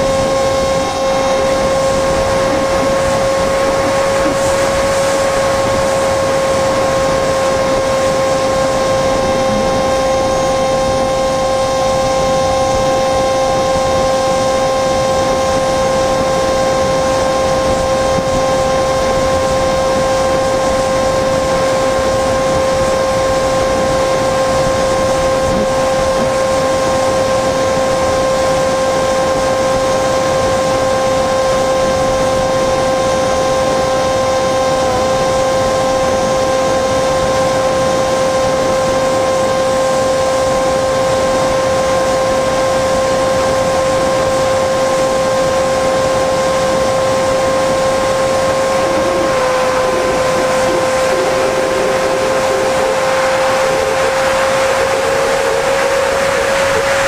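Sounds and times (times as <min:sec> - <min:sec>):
electric motor and propeller whine: 0:00.0 - 0:57.0
wind noise: 0:00.0 - 0:57.0.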